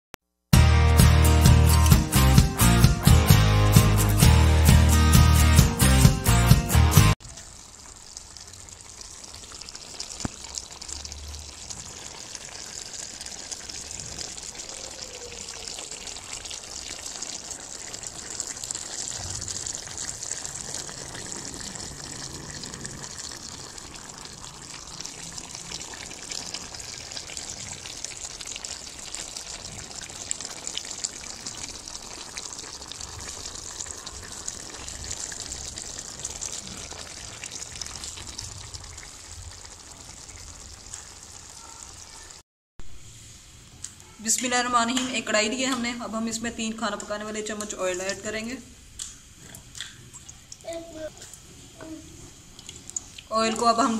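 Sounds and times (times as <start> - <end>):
curry bubbling and sizzling: 7.1 - 53.9
popping in pan: 7.2 - 42.2, 43.7 - 53.9.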